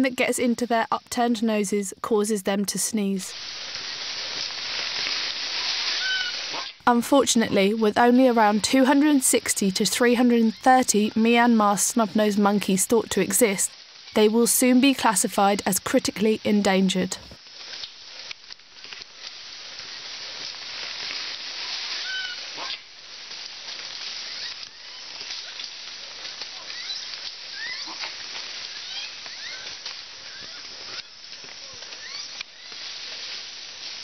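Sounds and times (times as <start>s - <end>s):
steady high hiss: 0.0s - 34.0s.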